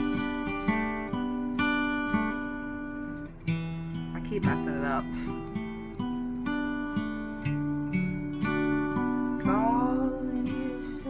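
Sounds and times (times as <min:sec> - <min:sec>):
fingerpicked acoustic guitar: 0:00.0 - 0:11.0.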